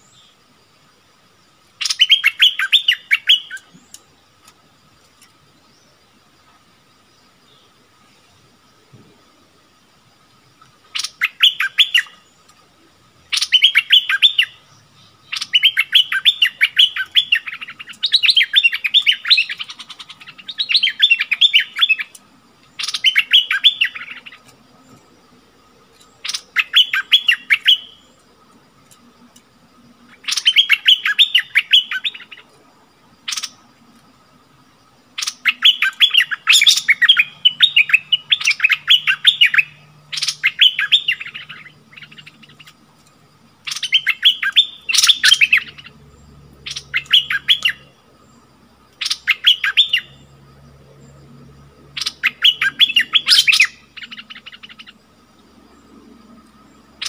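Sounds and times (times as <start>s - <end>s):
bulbuls singing: 0.0s - 57.0s
faint high hum: 0.0s - 57.0s.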